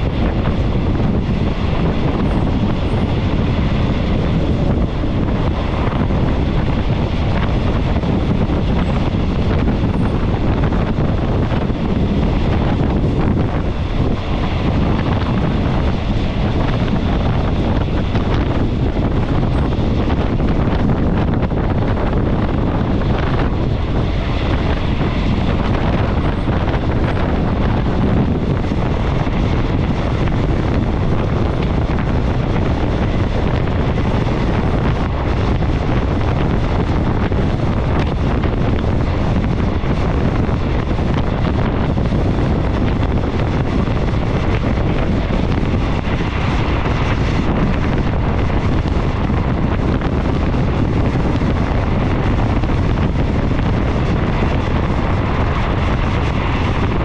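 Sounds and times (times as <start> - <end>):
train rumbling along the track: 0.0 - 57.0
wind buffeting a microphone: 0.0 - 57.0.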